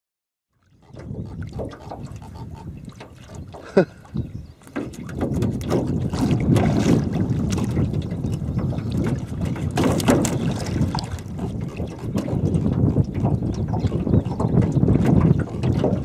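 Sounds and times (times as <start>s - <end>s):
wind rumbling on microphone: 0.6s - 16.0s.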